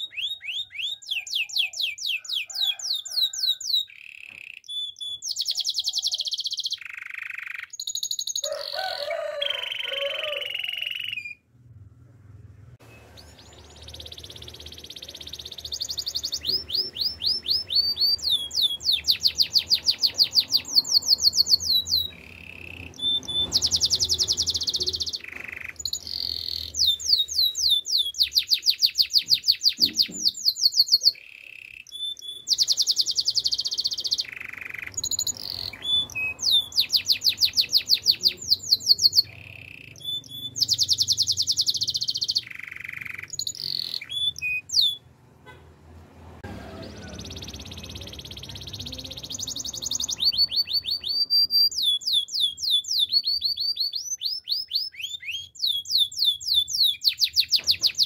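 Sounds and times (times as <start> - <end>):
canary singing trills: 0.0 - 11.5, 12.8 - 45.1, 46.7 - 58.0.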